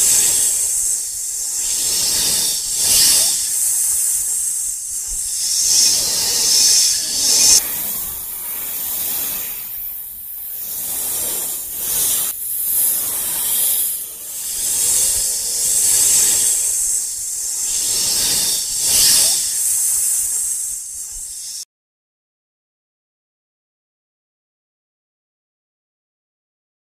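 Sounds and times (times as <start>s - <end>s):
loud hissing: 0.0s - 21.6s.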